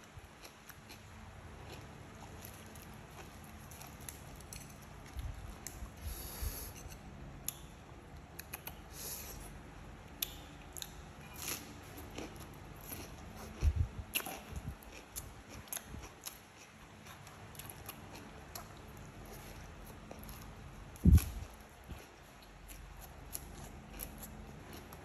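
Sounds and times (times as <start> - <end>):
person chewing food: 0.1 - 9.5, 10.1 - 25.0.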